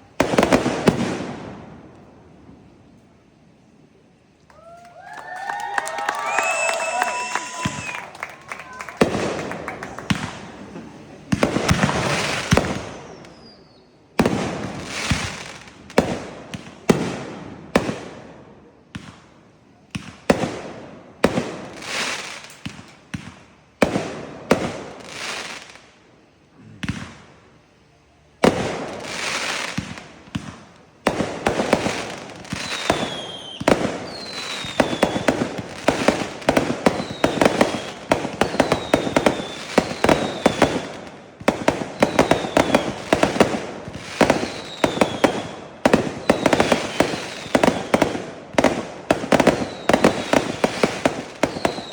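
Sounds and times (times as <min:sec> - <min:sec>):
fireworks banging and crackling: 0:00.0 - 0:03.3, 0:05.2 - 0:26.0, 0:26.6 - 0:27.8, 0:28.4 - 0:51.9
fireworks falling whistles: 0:04.6 - 0:18.1, 0:21.2 - 0:25.9, 0:26.8 - 0:51.9.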